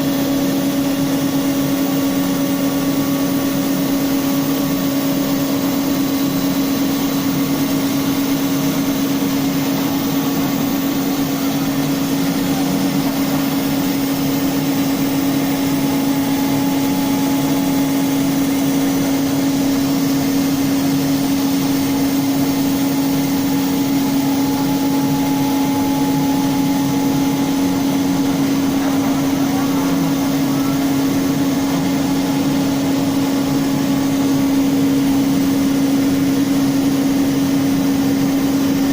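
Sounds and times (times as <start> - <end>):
hiss of machine noise: 0.0 - 38.9
router spindle whine: 0.0 - 38.9.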